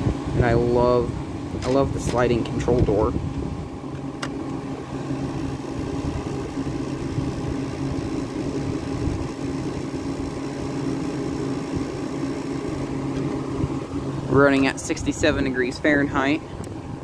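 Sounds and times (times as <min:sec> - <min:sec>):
air conditioner humming: 0:00.0 - 0:17.0
fan rushing: 0:00.0 - 0:17.0.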